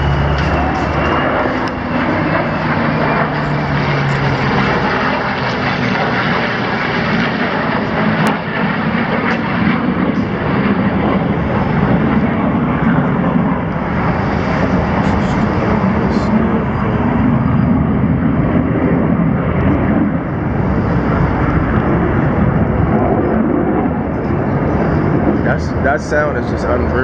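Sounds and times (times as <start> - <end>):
airplane engines roaring: 0.0 - 27.0.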